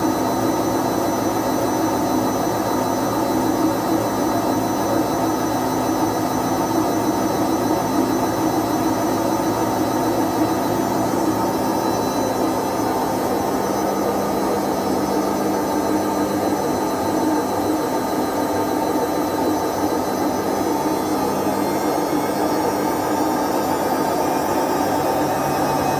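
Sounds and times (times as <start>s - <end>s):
washing machine running: 0.0s - 25.9s.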